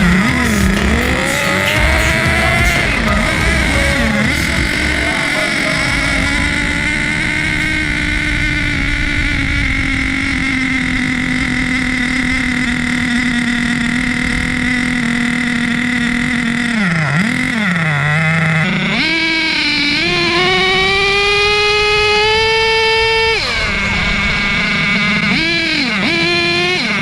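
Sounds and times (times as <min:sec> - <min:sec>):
small glow engine revving: 0:00.0 - 0:27.0.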